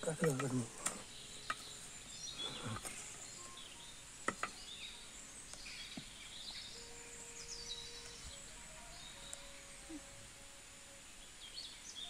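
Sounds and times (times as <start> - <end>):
birds chirping: 0.0 - 12.0
high insect drone: 0.0 - 12.0.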